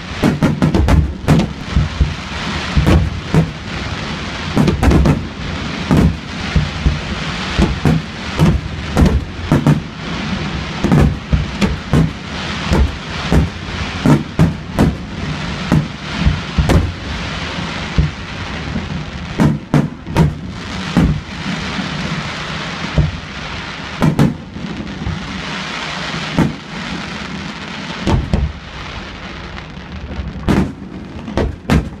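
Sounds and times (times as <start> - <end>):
fireworks bursting: 0.0 - 32.0
steady hiss: 0.0 - 32.0.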